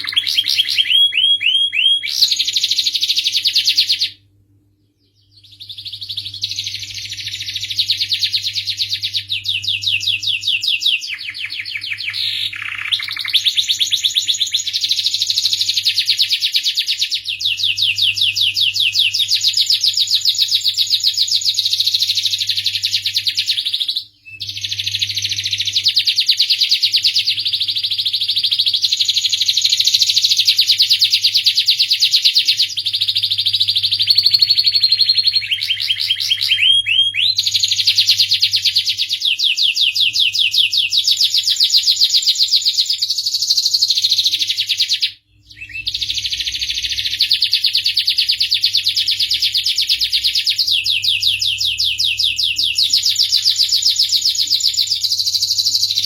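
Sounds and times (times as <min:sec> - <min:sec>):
canary singing trills: 0:00.0 - 0:04.2, 0:04.8 - 0:56.0.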